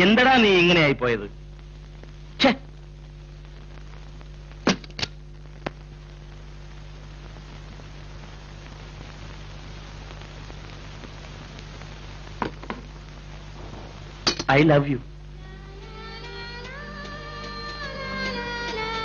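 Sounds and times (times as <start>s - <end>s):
film soundtrack hiss and hum: 0.0s - 19.0s.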